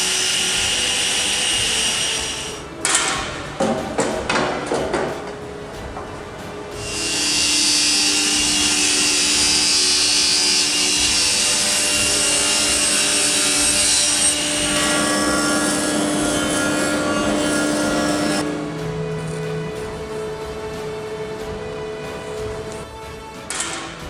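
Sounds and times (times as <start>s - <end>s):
board planed with hissing cut: 0.0s - 24.0s
planer machine humming: 0.0s - 24.0s.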